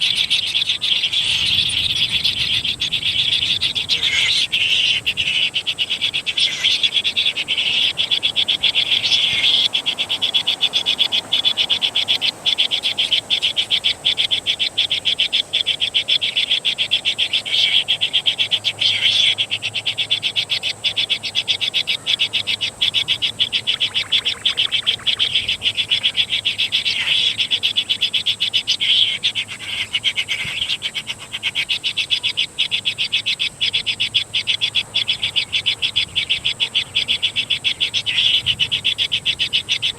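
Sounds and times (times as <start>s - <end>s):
chorus of animal calls: 0.0s - 39.9s.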